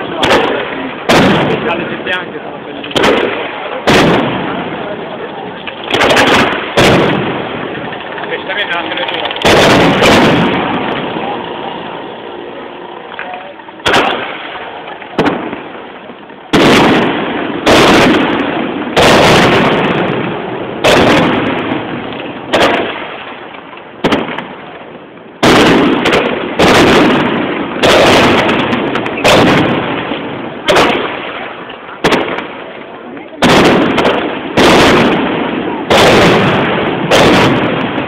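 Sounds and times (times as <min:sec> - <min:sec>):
fireworks booming: 0:00.0 - 0:38.0.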